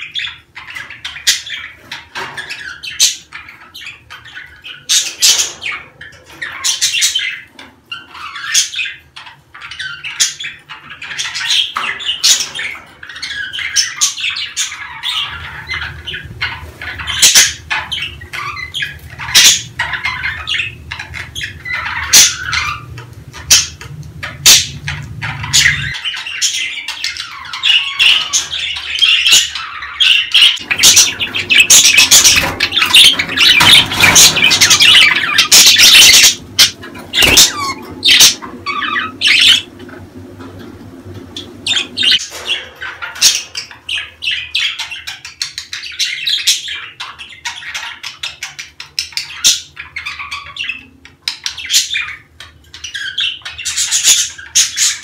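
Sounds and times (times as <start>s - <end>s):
budgerigars chattering: 0.0s - 39.9s, 41.2s - 55.0s.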